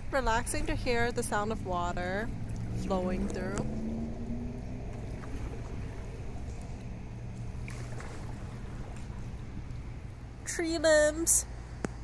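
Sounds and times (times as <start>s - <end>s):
wind rumble on microphone: 0.0s - 10.5s
water lapping and gurgling: 0.0s - 10.9s
faint splashes: 0.1s - 10.5s.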